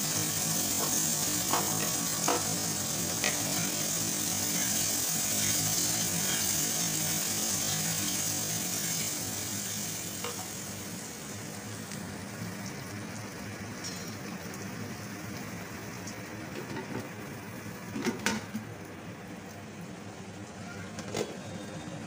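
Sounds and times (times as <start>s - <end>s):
food sizzling in hot oil: 0.0s - 20.4s.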